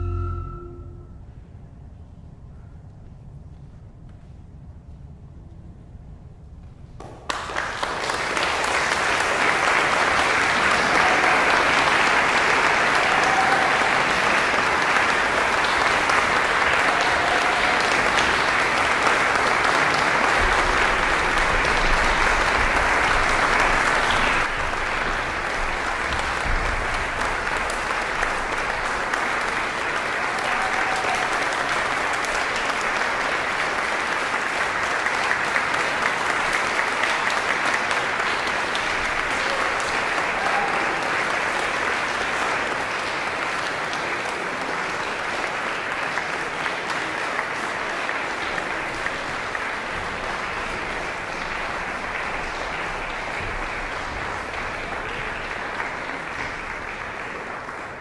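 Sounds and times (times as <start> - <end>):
audience applauding: 7.0 - 58.0.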